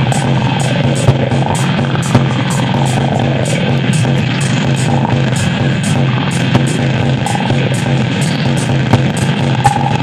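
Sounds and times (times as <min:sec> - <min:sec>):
layered synthesizer tones: 0:00.0 - 0:10.0
low synthesizer drone: 0:00.0 - 0:10.0.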